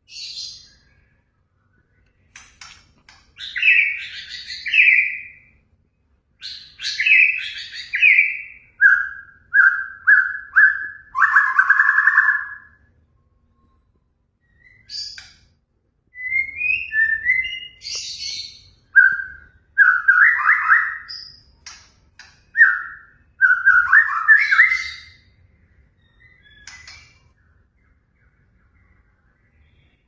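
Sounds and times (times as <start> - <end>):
bird whistling and chirping: 3.4 - 5.6, 6.4 - 12.9, 13.5 - 15.5, 16.1 - 30.0.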